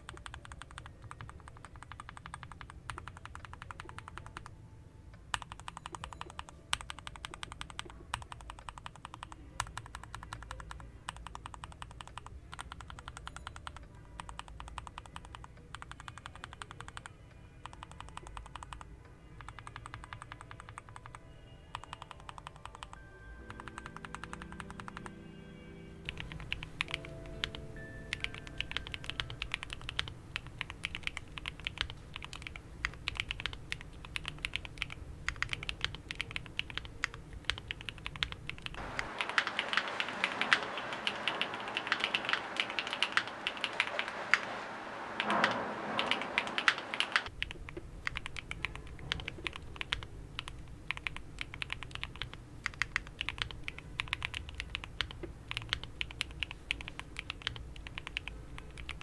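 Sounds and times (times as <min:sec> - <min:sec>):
mechanical keyboard typing: 0:00.0 - 0:04.5, 0:05.3 - 0:25.1, 0:26.1 - 0:59.0.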